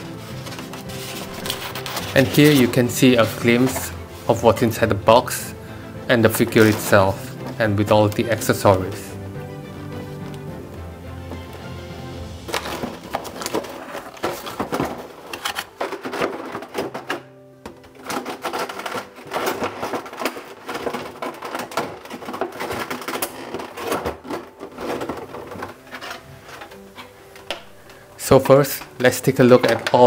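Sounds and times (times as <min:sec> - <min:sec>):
background music: 0:00.0 - 0:30.0
plastic tray crinkling and clacking: 0:00.4 - 0:05.5, 0:06.1 - 0:09.1, 0:12.4 - 0:30.0.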